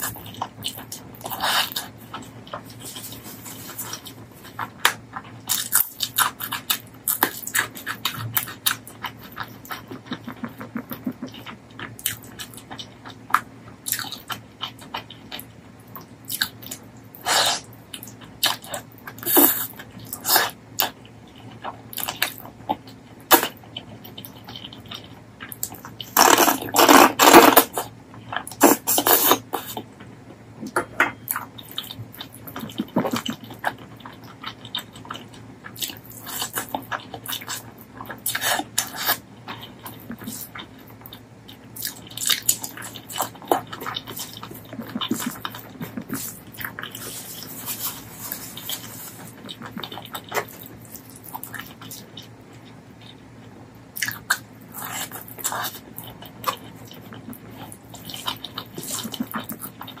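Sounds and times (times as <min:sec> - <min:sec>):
person chewing and smacking: 0:00.0 - 1:00.0.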